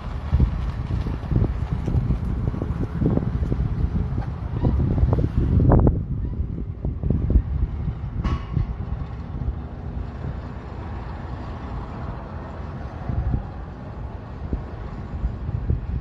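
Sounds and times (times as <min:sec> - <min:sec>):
wind gusting on microphone: 0:00.0 - 0:16.0.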